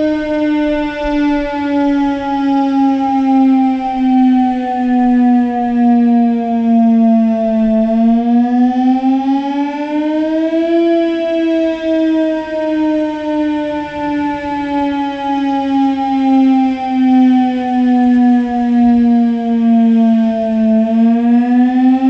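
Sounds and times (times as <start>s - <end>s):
tornado siren wailing: 0.0s - 22.0s.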